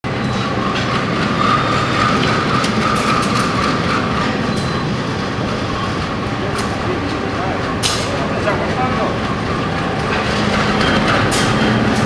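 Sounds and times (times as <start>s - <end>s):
diesel locomotive running: 0.0s - 12.0s
wheels clicking on rails: 0.1s - 12.0s.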